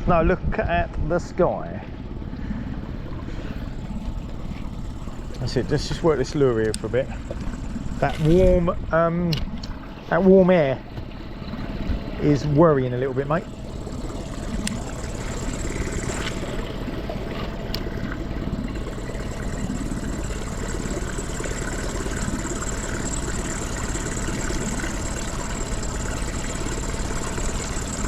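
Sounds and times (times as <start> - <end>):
outboard motor idling: 0.0 - 28.0.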